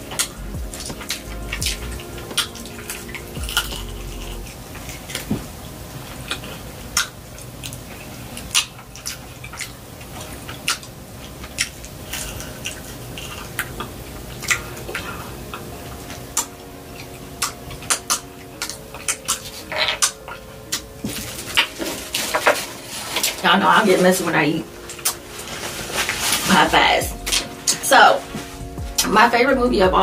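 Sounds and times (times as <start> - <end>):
chewing with crisp crunches: 0.0 - 29.1.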